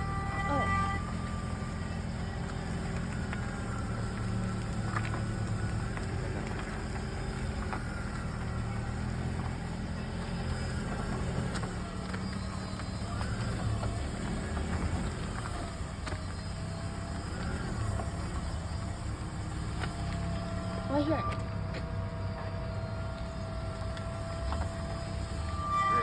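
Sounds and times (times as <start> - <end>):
car rolling with low hum: 0.0 - 26.0
wheel rubbing squeal: 0.0 - 26.0.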